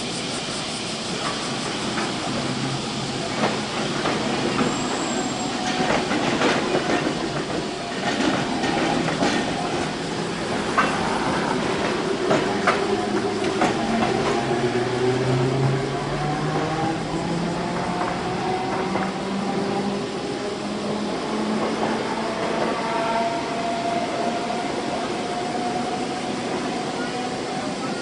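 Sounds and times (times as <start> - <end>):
streetcar rumbling on track: 0.0 - 28.0.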